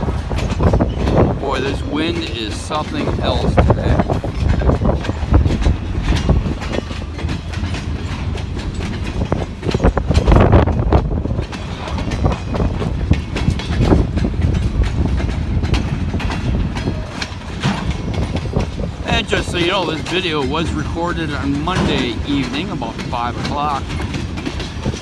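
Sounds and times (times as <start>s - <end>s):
train wheels clacking on rails: 0.0s - 25.0s
wind buffeting microphone: 0.0s - 25.0s.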